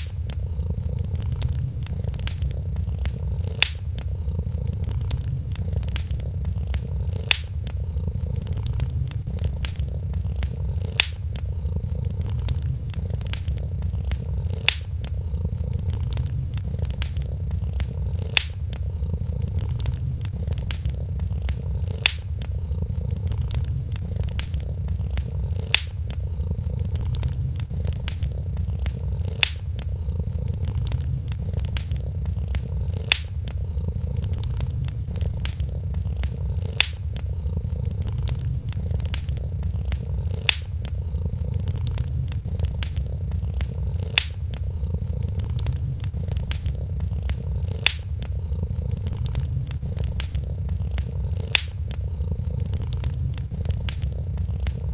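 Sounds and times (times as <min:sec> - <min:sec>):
cat purring: 0:00.0 - 0:54.9
wood fire crackling: 0:00.0 - 0:54.9.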